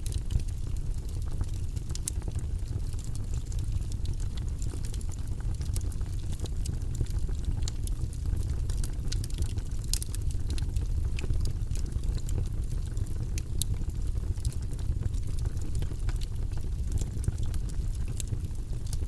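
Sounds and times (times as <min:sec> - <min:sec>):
logs crackling and popping: 0:00.0 - 0:19.0
rumble of fire flames: 0:00.0 - 0:19.0.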